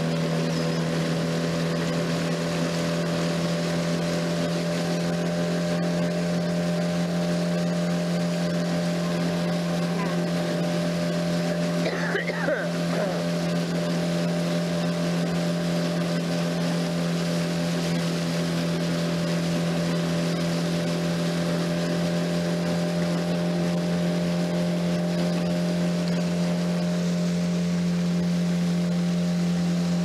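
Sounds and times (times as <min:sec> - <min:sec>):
outboard motor droning: 0:00.0 - 0:30.0.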